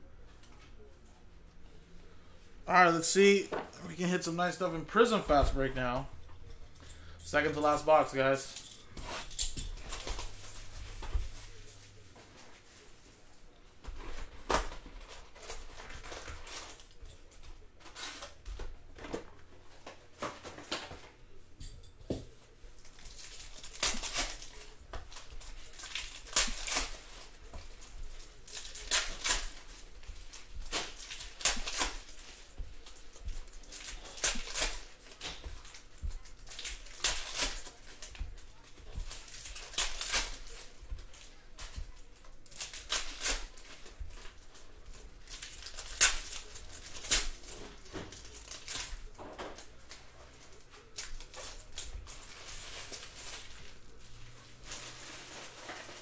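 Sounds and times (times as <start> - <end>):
wrappers crinkling and tearing: 2.7 - 12.9, 13.8 - 19.3, 22.4 - 56.0.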